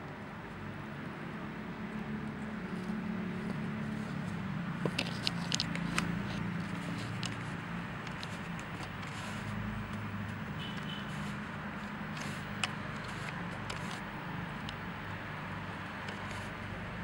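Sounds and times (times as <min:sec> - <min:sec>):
hedgehog clicks and scratches on wood: 0:01.9 - 0:16.7.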